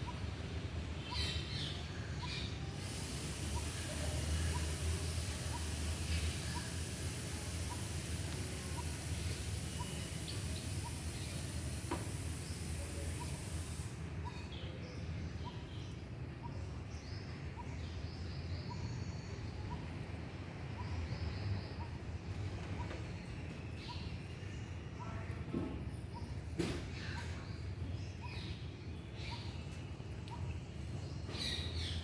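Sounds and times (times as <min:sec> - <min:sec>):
low background hum and hiss: 0:00.0 - 0:32.0
faint bird chirps: 0:01.0 - 0:25.3, 0:26.1 - 0:32.0.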